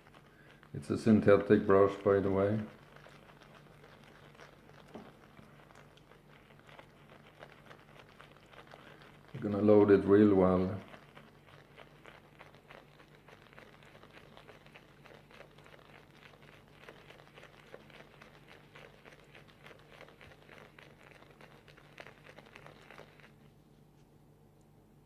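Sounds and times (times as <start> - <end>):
shaving brush swirling on soap: 0.0 - 24.0.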